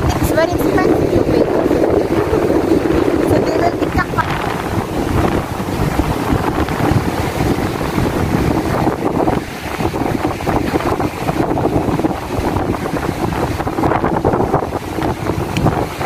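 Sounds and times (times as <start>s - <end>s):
sea surf breaking: 0.0s - 16.0s
wind buffeting microphone: 0.0s - 16.0s.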